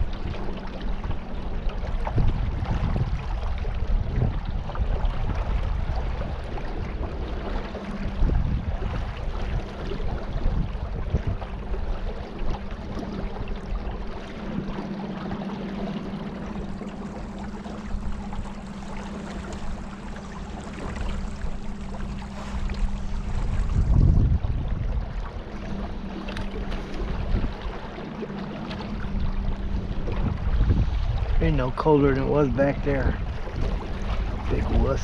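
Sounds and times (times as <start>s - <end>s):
low rumbling buffets: 0.0s - 35.0s
small boat motor humming: 0.0s - 35.0s
water wash: 0.0s - 35.0s.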